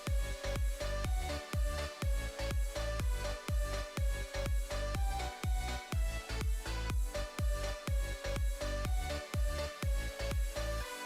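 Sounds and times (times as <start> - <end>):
electronic music with thumping beat: 0.0 - 11.0.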